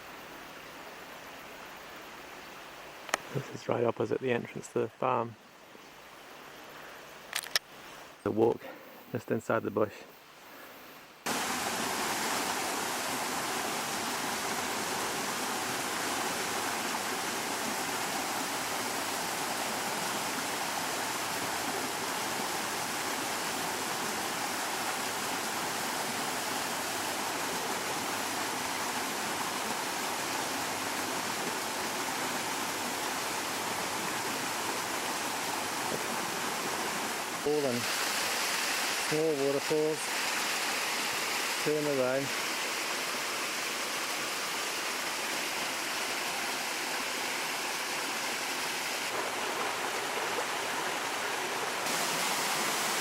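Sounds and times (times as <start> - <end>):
stream rushing over small waterfalls: 0.0 - 4.6, 11.2 - 53.0.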